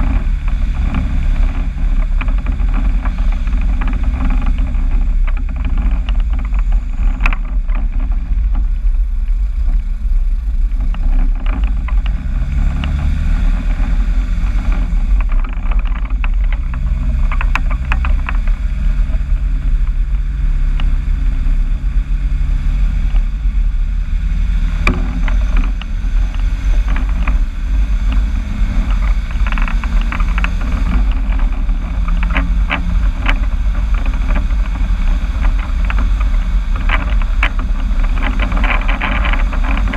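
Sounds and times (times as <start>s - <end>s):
light clicks and rattles: 0.0s - 39.9s
vehicle engine rumbling: 0.0s - 39.9s.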